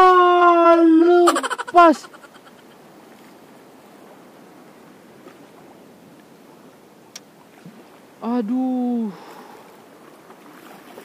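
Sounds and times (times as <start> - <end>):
water washing on shoreline: 0.0 - 11.0.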